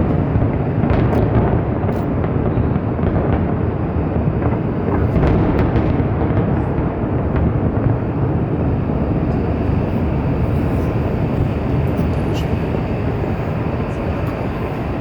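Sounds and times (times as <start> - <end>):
fireworks rumble: 0.0 - 15.0.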